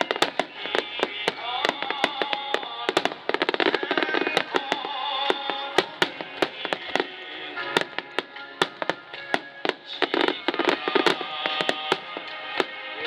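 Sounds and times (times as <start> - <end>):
fireworks popping and crackling: 0.0 - 13.0
music playing: 0.0 - 13.0.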